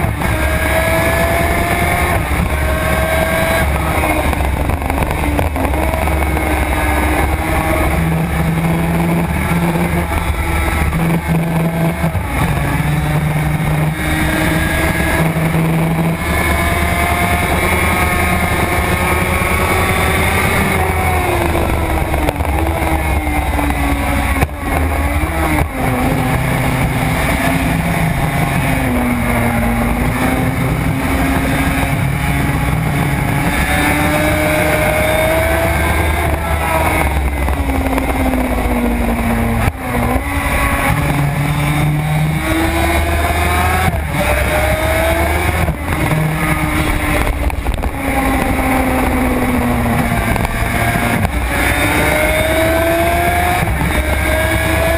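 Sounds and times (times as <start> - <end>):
two-stroke engine running hard: 0.0 - 54.9.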